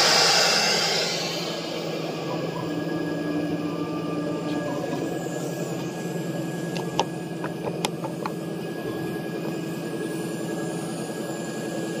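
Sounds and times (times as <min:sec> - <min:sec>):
machine hum: 0:00.0 - 0:11.6.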